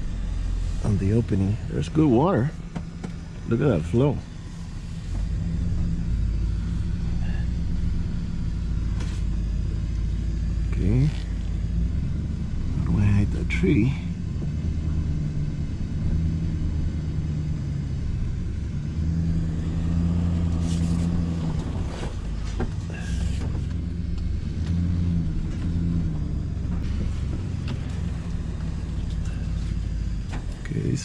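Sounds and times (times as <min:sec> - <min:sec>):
pickup engine running: 0:00.0 - 0:31.0.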